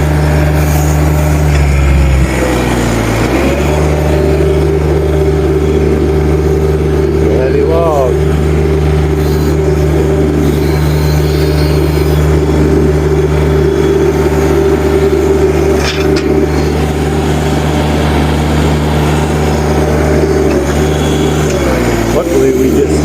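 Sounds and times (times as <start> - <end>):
heavy equipment engine running: 0.0 - 23.0.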